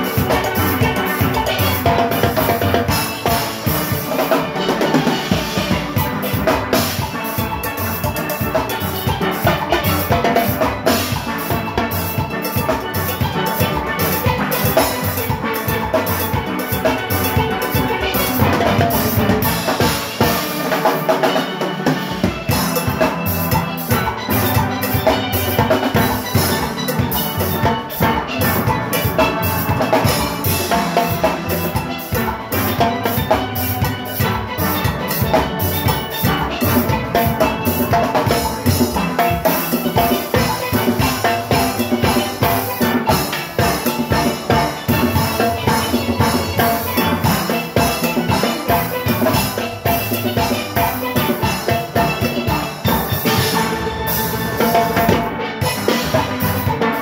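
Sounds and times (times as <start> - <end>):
drum kit and percussion beat: 0.0 - 57.0.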